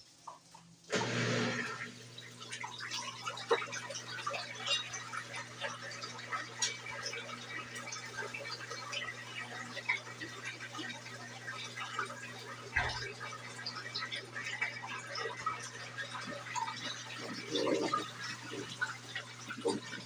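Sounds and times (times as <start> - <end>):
water rushing: 0.9 - 20.0
water splashing in drum: 2.5 - 20.0.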